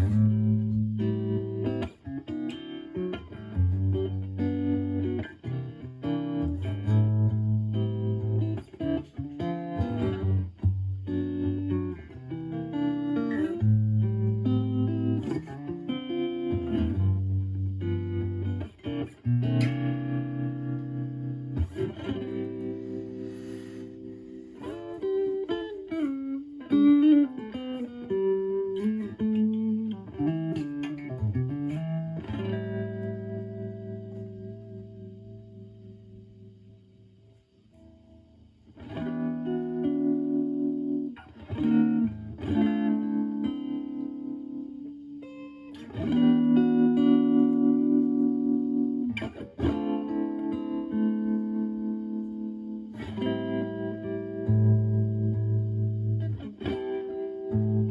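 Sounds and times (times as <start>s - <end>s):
clean electric guitar chords: 0.0s - 57.9s.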